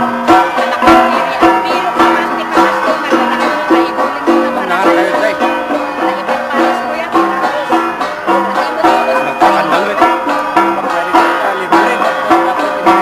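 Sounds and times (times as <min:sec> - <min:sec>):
bronze gongs struck in rhythm: 0:00.0 - 0:13.0.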